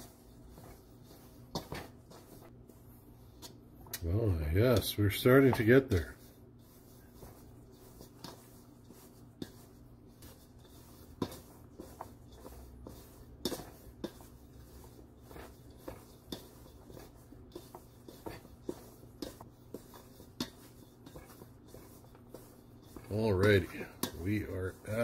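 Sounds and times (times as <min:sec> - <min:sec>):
hand squishing dough: 0:00.0 - 0:25.0.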